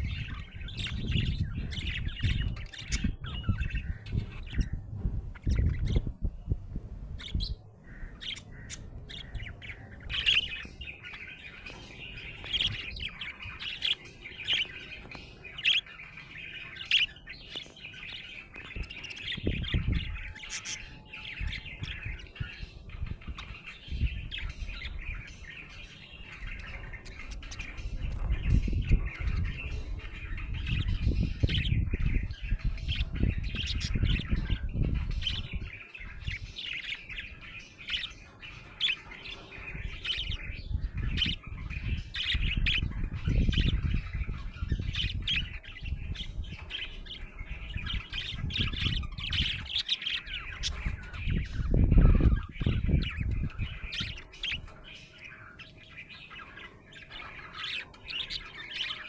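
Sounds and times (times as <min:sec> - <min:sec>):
budgerigar chirping and warbling: 0:00.0 - 0:04.8, 0:07.2 - 0:59.0.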